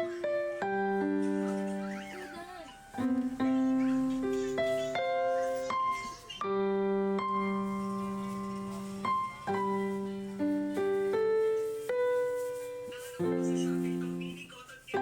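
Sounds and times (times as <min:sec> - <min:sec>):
slow keyboard melody: 0:00.0 - 0:15.0.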